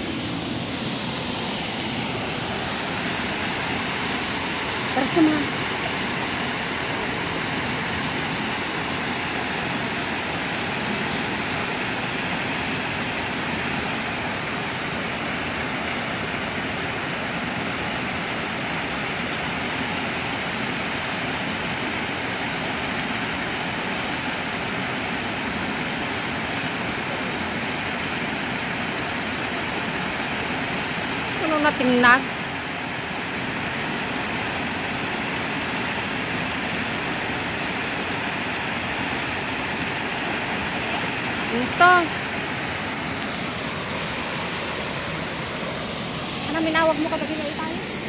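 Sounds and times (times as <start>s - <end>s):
small waterfall rushing: 0.0s - 48.0s.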